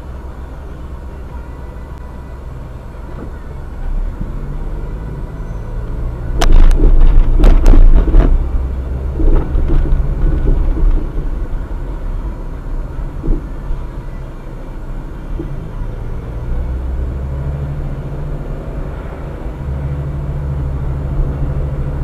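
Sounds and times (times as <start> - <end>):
train rumbling: 1.6 - 22.0.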